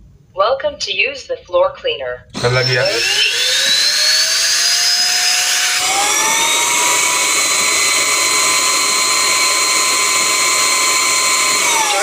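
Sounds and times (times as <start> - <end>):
floor cleaner motor whine: 2.3 - 12.0.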